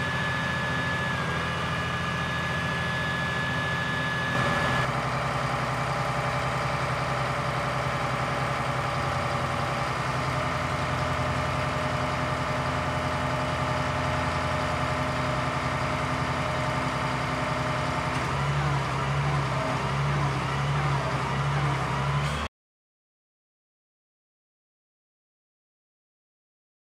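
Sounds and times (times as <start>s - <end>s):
truck diesel engine running: 0.0s - 22.5s.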